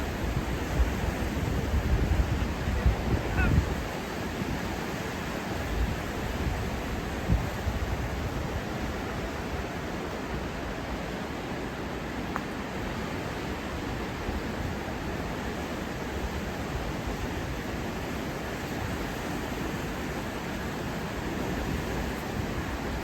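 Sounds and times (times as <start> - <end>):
river rushing: 0.0 - 23.0.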